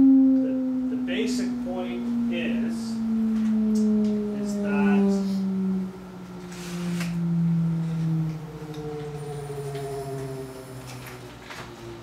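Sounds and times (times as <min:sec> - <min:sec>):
electric motor whine falling: 0:00.0 - 0:12.0.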